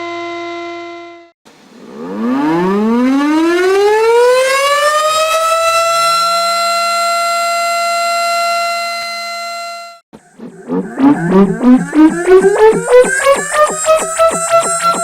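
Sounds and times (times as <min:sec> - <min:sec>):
tornado siren winding up: 0:01.8 - 0:15.0.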